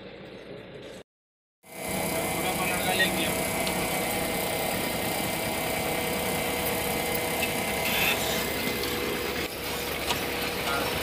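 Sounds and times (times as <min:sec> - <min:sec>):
excavator diesel engine running: 0:01.7 - 0:11.0.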